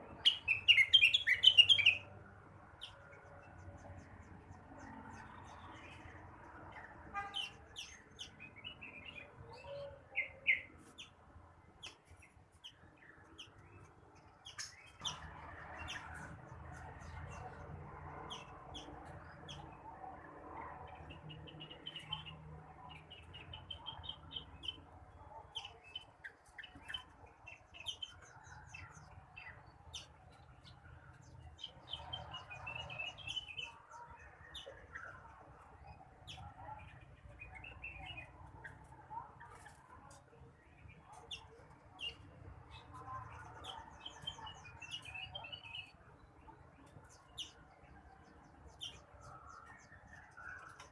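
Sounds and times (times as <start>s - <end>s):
bird singing chirps and trills: 0.0s - 50.9s.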